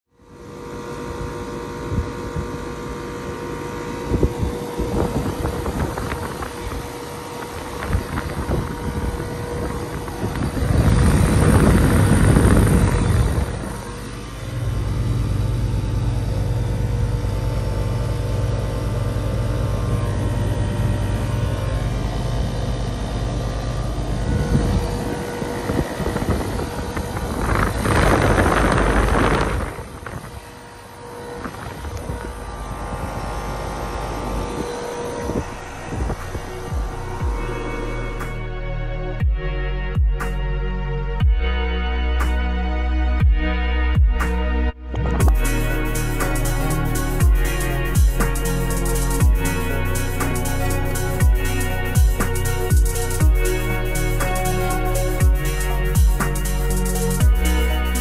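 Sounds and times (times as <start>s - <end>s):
heat pump humming: 0.2s - 40.2s, 44.9s - 58.0s.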